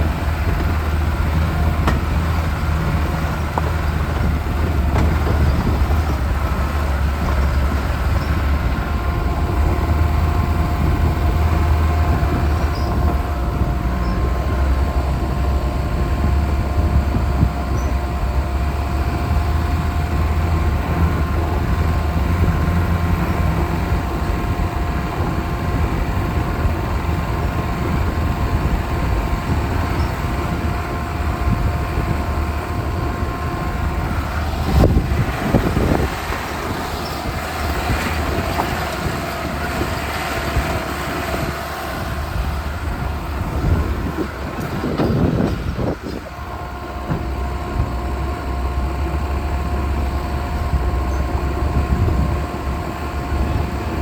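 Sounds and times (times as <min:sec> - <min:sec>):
engine and road rumble: 0:00.0 - 0:54.0.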